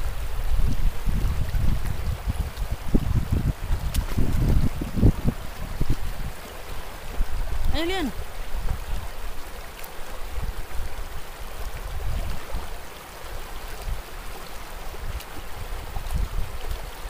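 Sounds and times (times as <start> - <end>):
river flowing over stones: 0.0 - 17.0.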